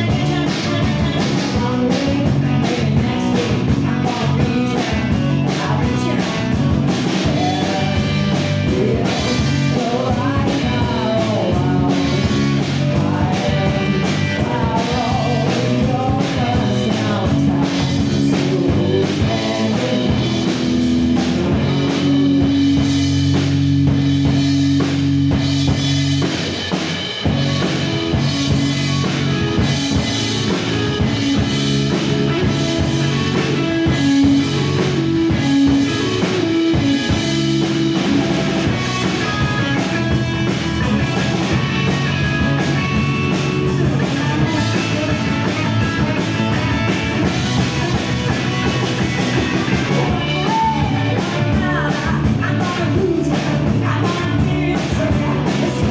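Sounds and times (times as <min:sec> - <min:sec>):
steady drumming: 0:00.0 - 0:55.9.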